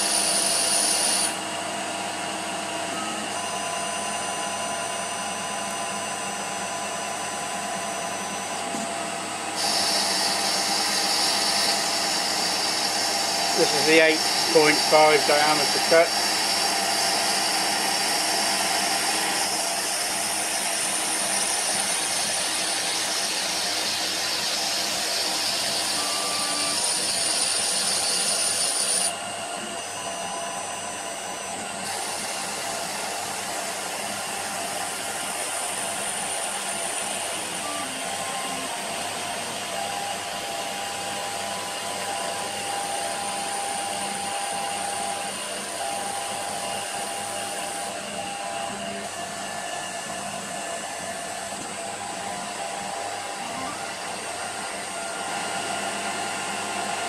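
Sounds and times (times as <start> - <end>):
lathe motor whine and hiss: 0.0 - 57.0.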